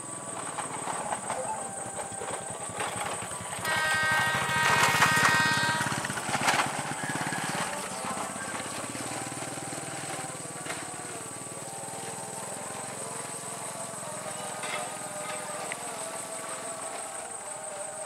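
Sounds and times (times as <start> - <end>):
electric train pulsing: 0.0 - 18.0.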